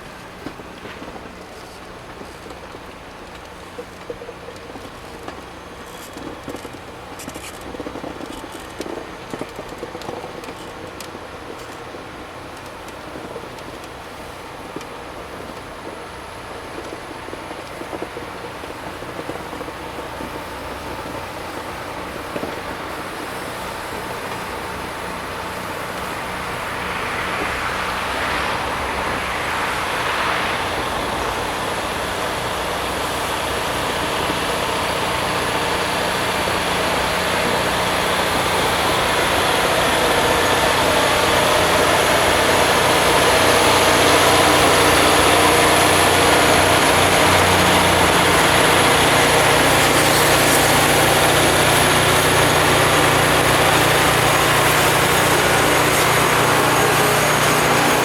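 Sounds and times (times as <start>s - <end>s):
rail grinding machine: 0.0s - 58.0s.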